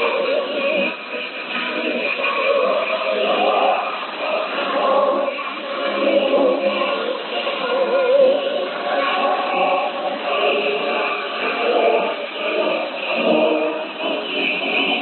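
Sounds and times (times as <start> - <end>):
choir singing over shortwave radio: 0.0 - 15.0.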